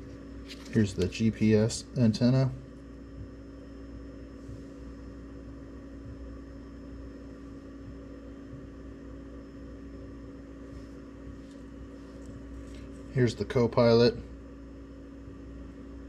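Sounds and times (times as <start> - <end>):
room hum with faint hiss: 0.0 - 16.0.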